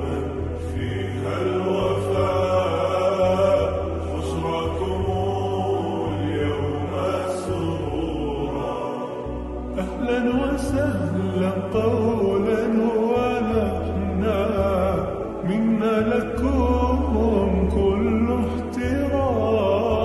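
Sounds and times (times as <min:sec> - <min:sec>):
chant-like vocals: 0:00.0 - 0:20.0
low drone: 0:00.0 - 0:20.0.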